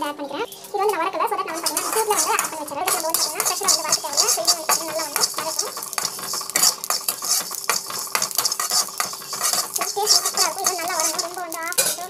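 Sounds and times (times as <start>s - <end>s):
peppercorns rattling in pan: 1.4s - 12.0s
spatula scraping metal pan: 1.5s - 12.0s.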